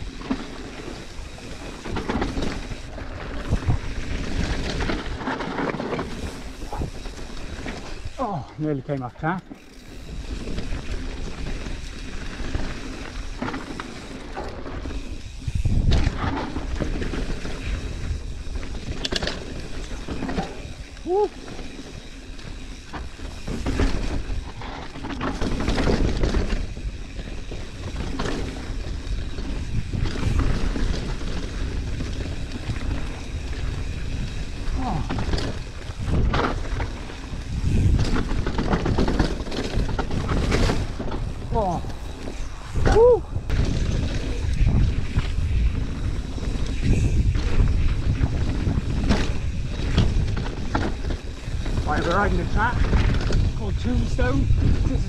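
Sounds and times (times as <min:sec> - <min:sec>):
wind buffeting microphone: 0:00.0 - 0:08.8, 0:14.6 - 0:55.0
bike rattling over rough ground: 0:00.0 - 0:55.0
tyres rumbling over dirt: 0:00.0 - 0:55.0.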